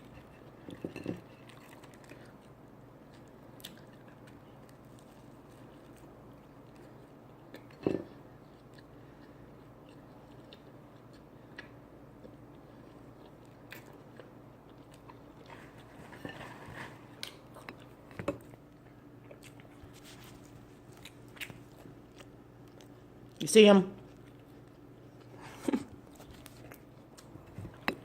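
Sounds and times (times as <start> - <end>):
person chewing food: 0.0 - 23.4, 24.0 - 28.0.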